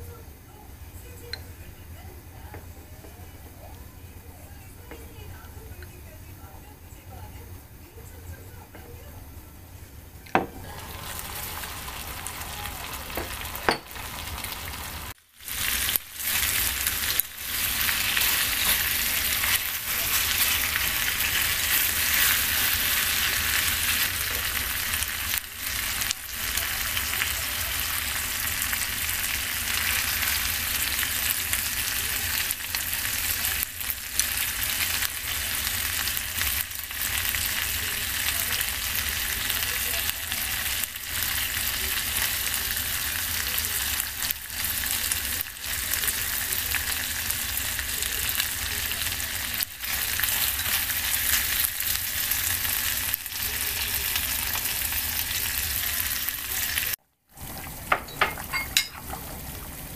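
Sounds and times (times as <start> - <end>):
food sizzling in a pan: 10.3 - 59.9.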